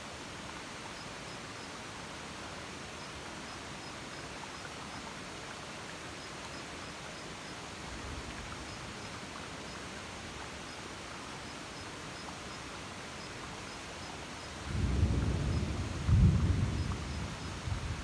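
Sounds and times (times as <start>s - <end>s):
faint scattered ticks: 0.6s - 17.8s.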